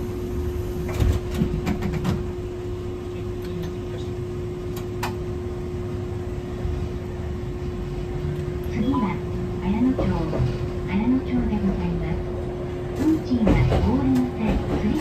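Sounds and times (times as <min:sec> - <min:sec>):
tram rumble: 0:00.0 - 0:15.0.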